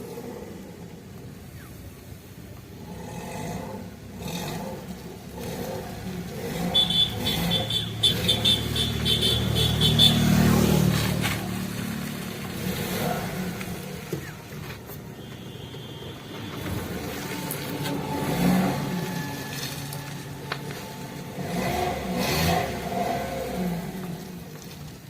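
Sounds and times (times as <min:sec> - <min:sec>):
car engine revving under load: 0:00.0 - 0:25.0.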